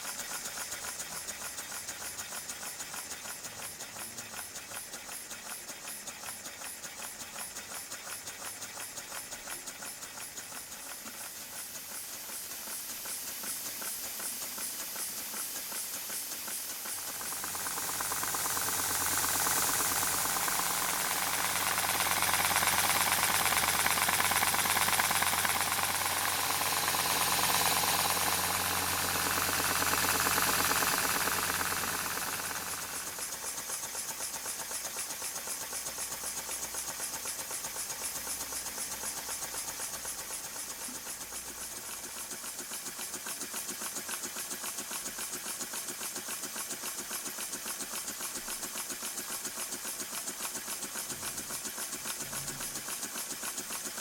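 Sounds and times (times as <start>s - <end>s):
model steam engine exhaust chuffing: 0.0s - 54.0s.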